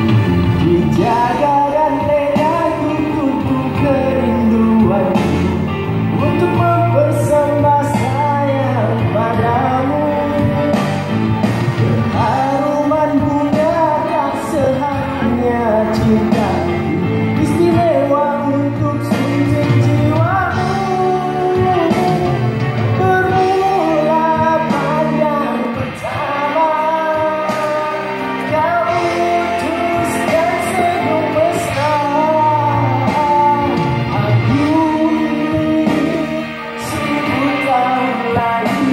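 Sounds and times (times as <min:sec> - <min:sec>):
instrumental backing music: 0:00.0 - 0:38.9
person singing into microphone: 0:00.0 - 0:38.9.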